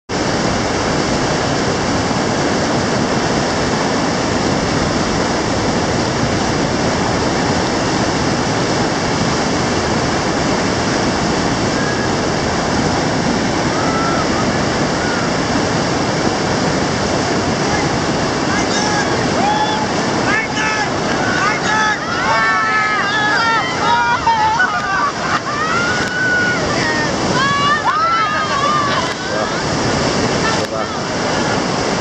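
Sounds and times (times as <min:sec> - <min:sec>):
river rapids rushing: 0:00.1 - 0:32.0.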